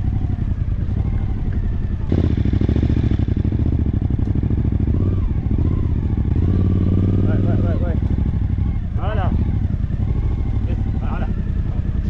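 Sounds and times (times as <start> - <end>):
motorcycle engine in sand: 0.0 - 12.0.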